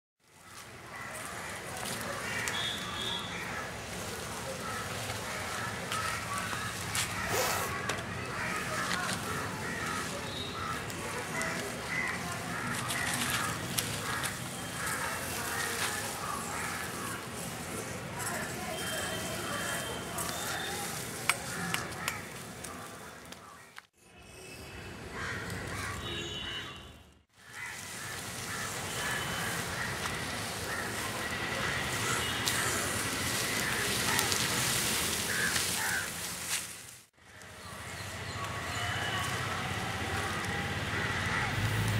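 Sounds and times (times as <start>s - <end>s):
dry leaves crackling: 0.2s - 23.9s, 25.1s - 26.6s, 27.3s - 41.9s
steady outdoor hiss: 0.4s - 23.2s, 27.4s - 41.9s.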